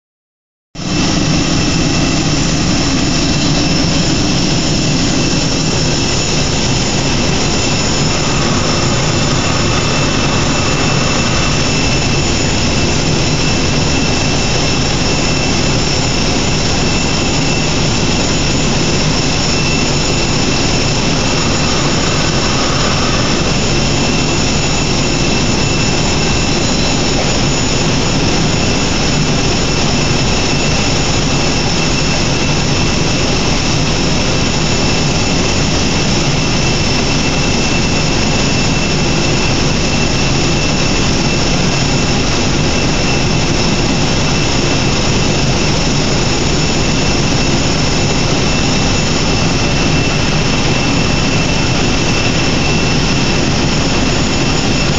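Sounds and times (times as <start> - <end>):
jet engine whining: 0.8 - 54.9.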